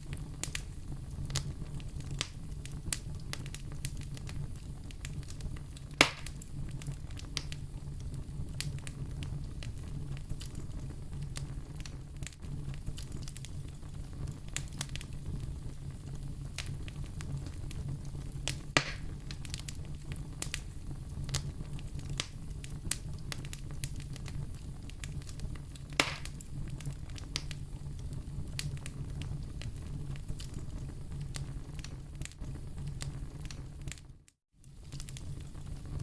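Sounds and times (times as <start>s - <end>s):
loud fire pops: 0.0s - 36.0s
wood fire crackling: 0.0s - 36.0s.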